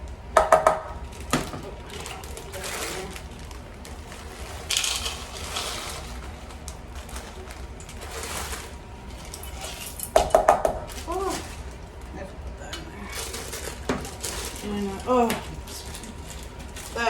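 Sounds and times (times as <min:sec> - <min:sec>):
frozen corn bag rustling: 0:01.0 - 0:10.1, 0:10.8 - 0:17.0
hard kernels rattling: 0:01.0 - 0:11.9, 0:12.8 - 0:17.0.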